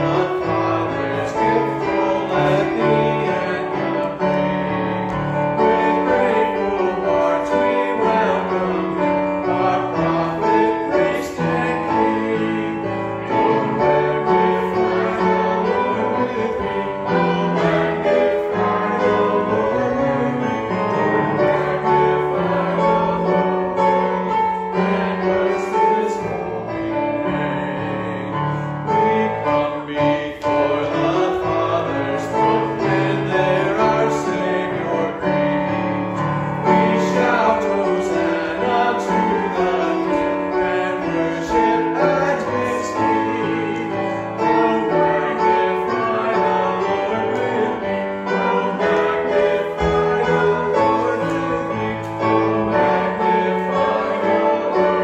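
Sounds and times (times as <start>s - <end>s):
group singing a hymn: 0.0s - 55.0s
keyboard accompaniment: 0.0s - 55.0s.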